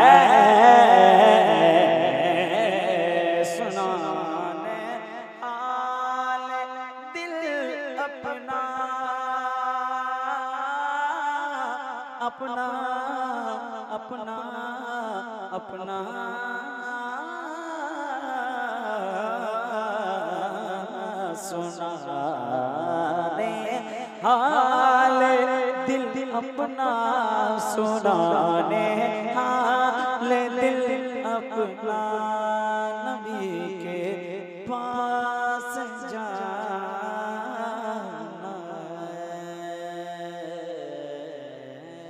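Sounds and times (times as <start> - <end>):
man singing into a microphone: 0.0 - 42.0.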